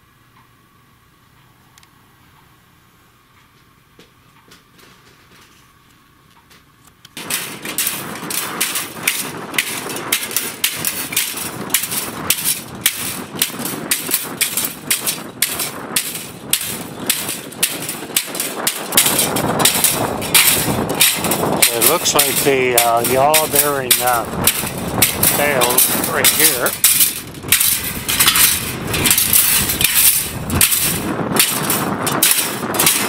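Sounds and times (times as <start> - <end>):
windmill rotor clattering: 4.4 - 33.0.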